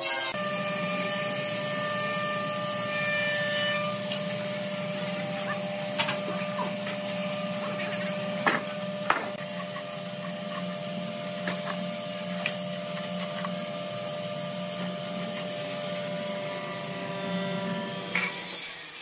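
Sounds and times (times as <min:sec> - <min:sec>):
workshop machinery humming: 0:00.0 - 0:18.9.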